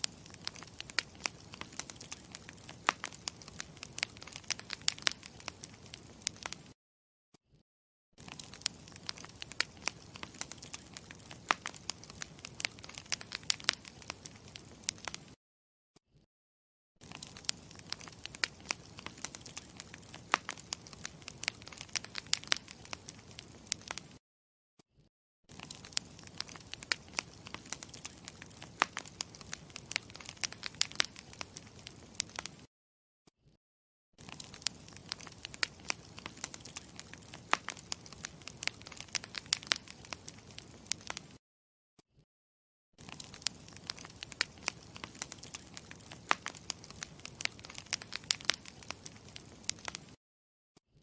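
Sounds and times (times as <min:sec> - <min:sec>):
campfire crackling: 0:00.0 - 0:06.8, 0:08.2 - 0:15.4, 0:17.0 - 0:24.2, 0:25.5 - 0:32.7, 0:34.2 - 0:41.4, 0:43.0 - 0:50.2.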